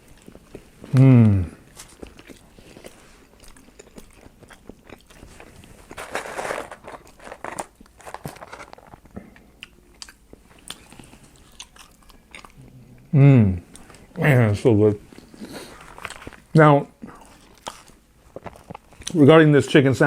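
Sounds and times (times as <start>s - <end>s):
person chewing food: 0.0s - 13.1s, 15.1s - 19.2s.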